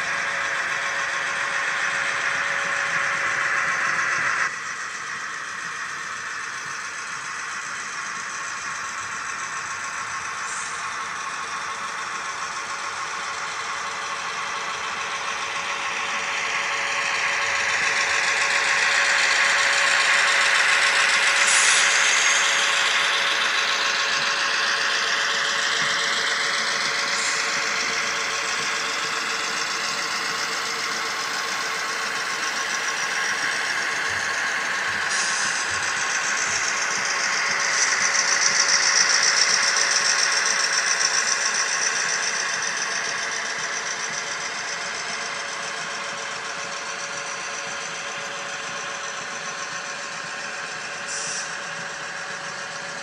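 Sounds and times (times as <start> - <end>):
model train whirring and rattling: 0.0 - 53.0.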